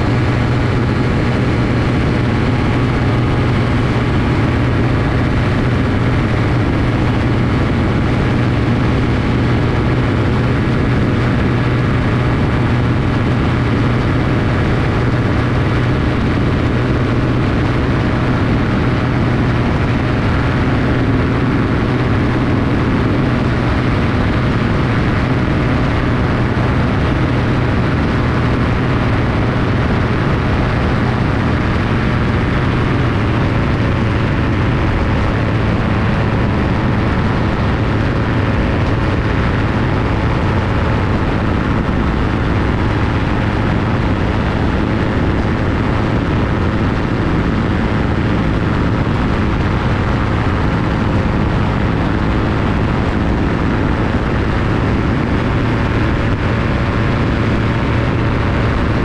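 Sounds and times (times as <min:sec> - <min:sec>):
ultralight aircraft engine droning: 0:00.0 - 0:59.0.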